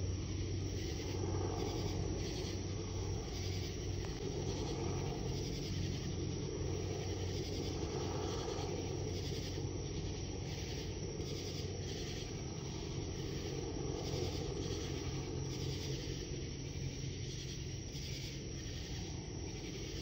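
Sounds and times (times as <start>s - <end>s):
distant helicopters droning: 0.0s - 20.0s
night insects calling: 0.0s - 20.0s.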